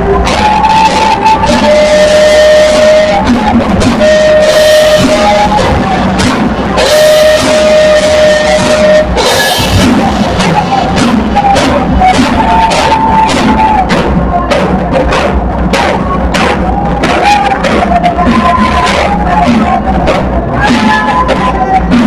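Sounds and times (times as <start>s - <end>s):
drum kit: 0.0s - 22.0s.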